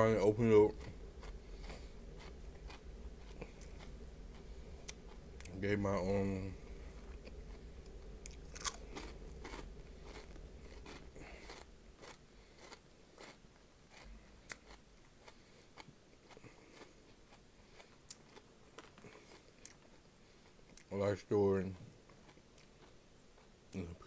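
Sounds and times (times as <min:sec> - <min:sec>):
person chewing crunchy snacks: 0:00.0 - 0:20.9, 0:21.7 - 0:23.9.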